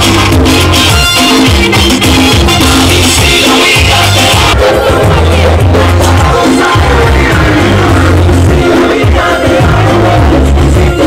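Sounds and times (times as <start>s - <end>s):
loud salsa music: 0.0s - 11.0s.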